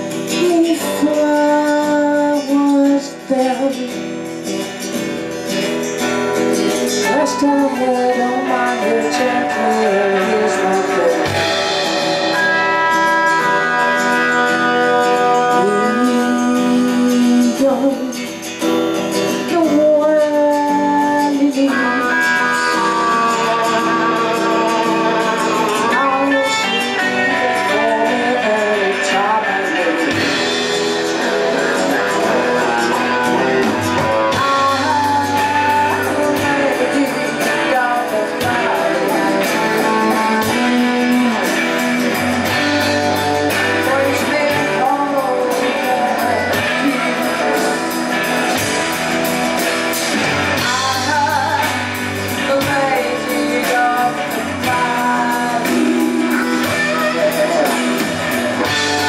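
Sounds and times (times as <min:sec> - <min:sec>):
electric guitar: 0:00.0 - 0:59.0
strummed acoustic guitar: 0:00.0 - 0:59.0
woman singing: 0:00.0 - 0:59.0
electric bass: 0:04.1 - 0:59.0.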